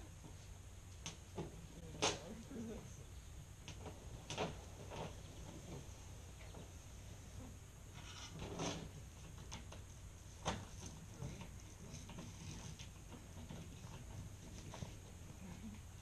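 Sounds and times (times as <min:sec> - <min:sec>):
faint knocks and rustles: 0:00.0 - 0:16.0.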